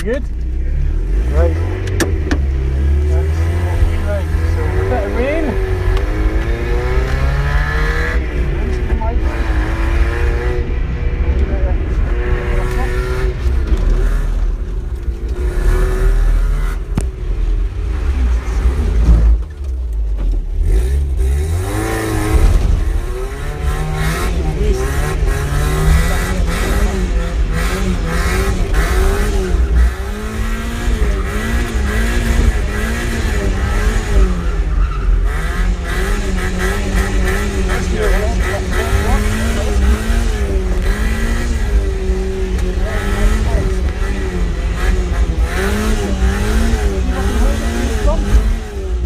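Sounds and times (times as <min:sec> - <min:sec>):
car engine revving: 0:00.0 - 0:49.0
heavy low rumble: 0:00.0 - 0:49.0.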